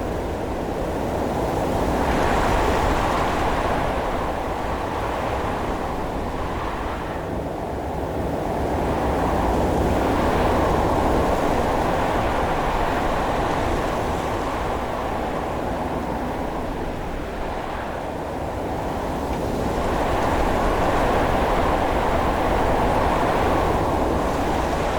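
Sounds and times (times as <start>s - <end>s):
strong wind blowing: 0.0s - 24.9s.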